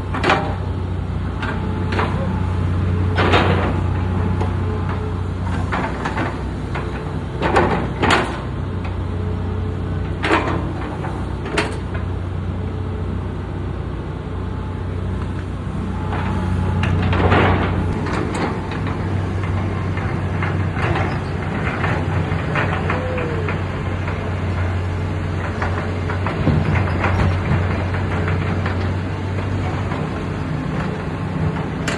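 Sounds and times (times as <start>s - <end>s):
excavator bucket clanking: 0.0s - 12.4s, 15.0s - 31.9s
diesel engine running: 0.0s - 31.9s.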